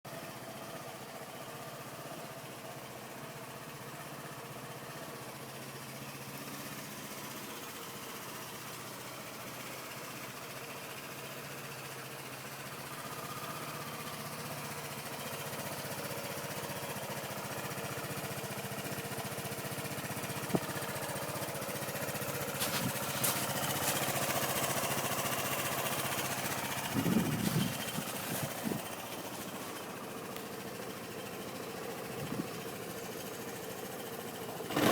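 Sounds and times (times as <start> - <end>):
scooter engine idling: 0.1 - 34.9.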